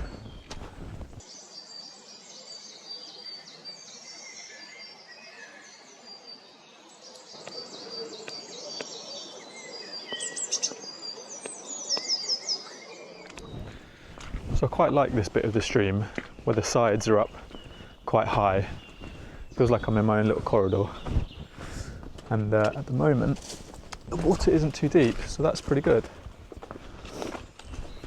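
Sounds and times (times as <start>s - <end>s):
small birds singing and calling: 0.0s - 28.0s.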